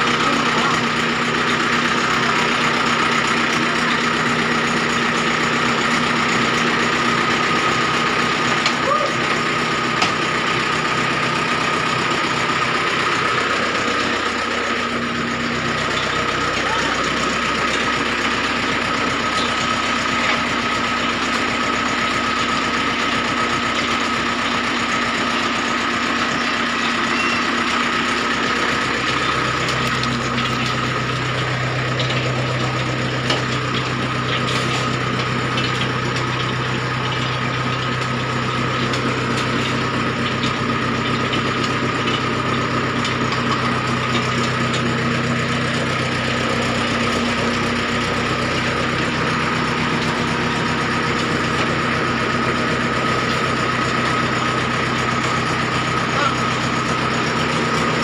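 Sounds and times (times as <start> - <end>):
brick machine running: 0.0 - 58.0.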